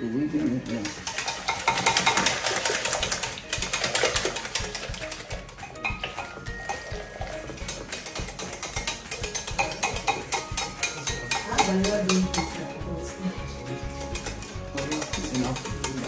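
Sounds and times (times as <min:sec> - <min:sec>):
wire whisk beating in a pot: 0:00.0 - 0:16.0.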